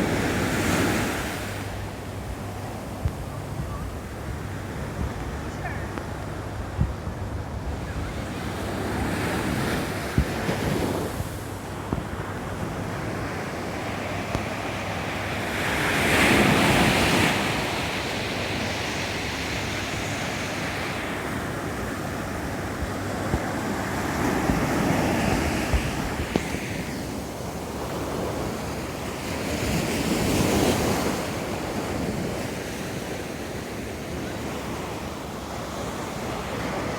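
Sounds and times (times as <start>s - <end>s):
ocean waves breaking on beach: 0.0s - 36.9s
wind rumbling on microphone: 0.0s - 36.9s.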